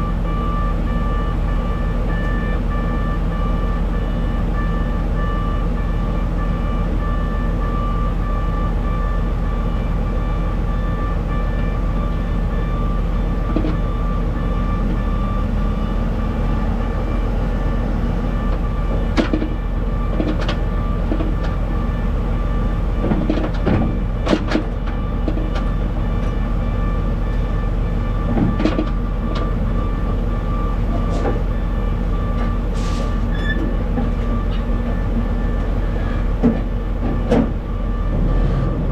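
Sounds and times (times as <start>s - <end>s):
heavy vehicle engine rumbling: 0.0s - 38.9s.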